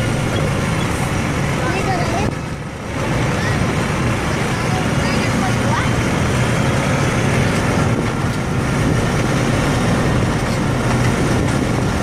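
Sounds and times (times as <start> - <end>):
engine running with low hum: 0.0 - 12.0.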